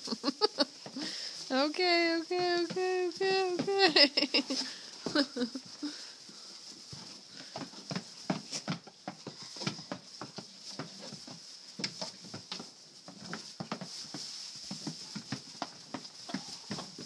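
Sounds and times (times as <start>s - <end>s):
goat hooves clattering: 0.0s - 17.0s.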